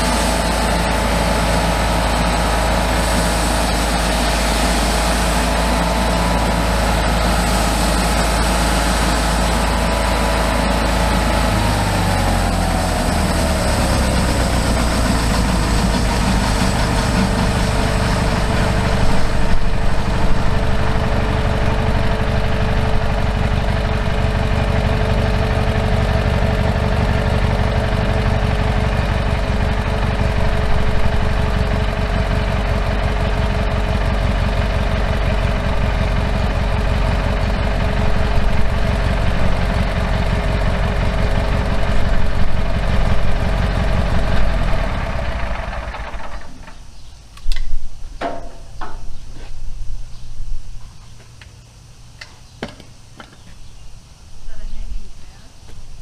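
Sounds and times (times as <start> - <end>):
sawmill engine running: 0.0 - 47.3.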